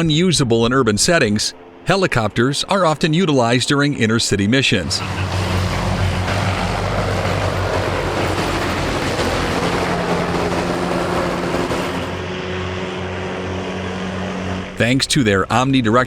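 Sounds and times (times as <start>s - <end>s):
helicopter engine and rotor: 0.9s - 16.0s.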